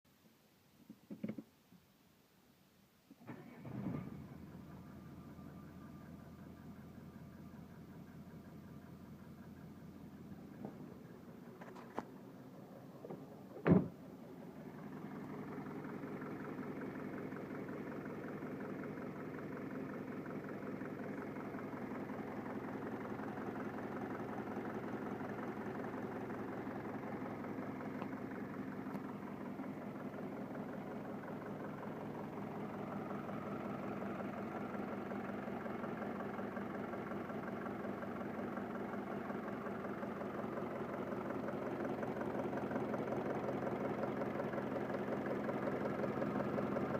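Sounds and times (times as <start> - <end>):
diesel engine starting clatter: 3.2 - 46.9
diesel engine idling roughly: 3.3 - 46.9.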